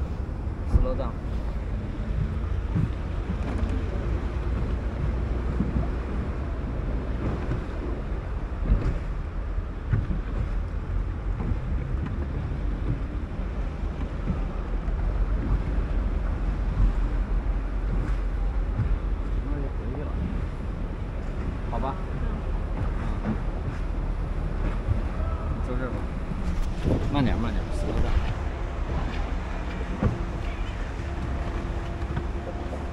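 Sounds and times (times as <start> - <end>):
motorboat engine running: 0.0 - 32.9
wind rumbling on microphone: 0.0 - 32.9.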